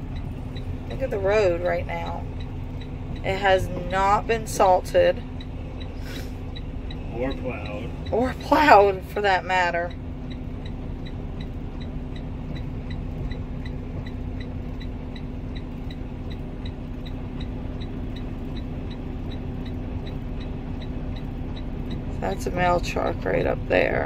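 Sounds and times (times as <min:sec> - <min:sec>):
faint regular ticking: 0:00.0 - 0:24.0
truck diesel engine rumbling: 0:00.0 - 0:24.0.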